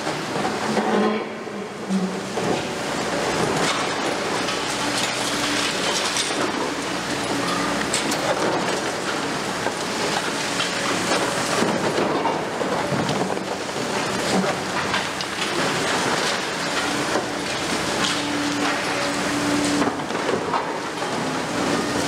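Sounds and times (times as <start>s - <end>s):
excavator engine and hydraulics: 0.0s - 22.0s.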